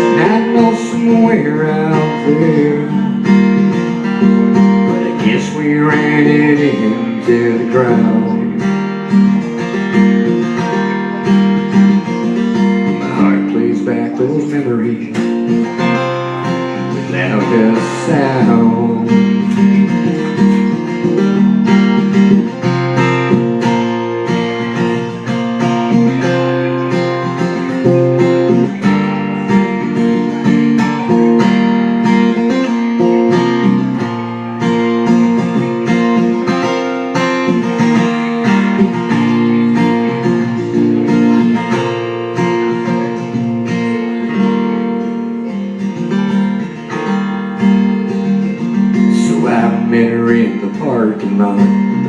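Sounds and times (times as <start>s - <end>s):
acoustic guitar strummed and picked: 0.0s - 52.0s.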